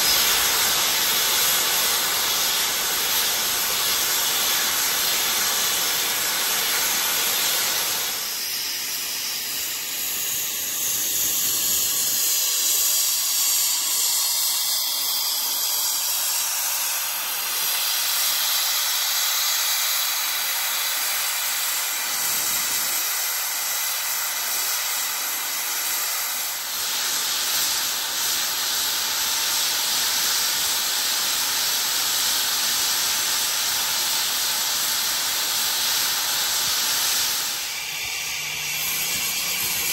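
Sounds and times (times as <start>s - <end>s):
steam hissing loudly: 0.0s - 39.9s.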